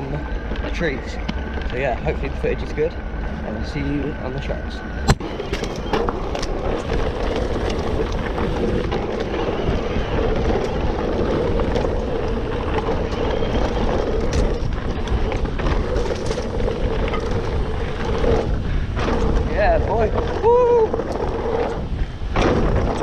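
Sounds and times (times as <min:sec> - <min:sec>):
bike clicks and rattles: 0:00.0 - 0:23.0
bike tyre noise: 0:00.0 - 0:23.0
wind rush on microphone: 0:00.0 - 0:23.0.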